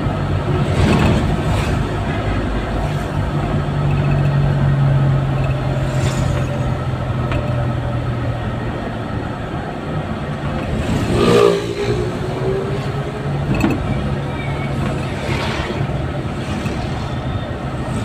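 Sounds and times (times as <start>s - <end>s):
passing traffic: 0.0s - 18.0s
vehicle engine hum from inside cab: 0.0s - 18.0s.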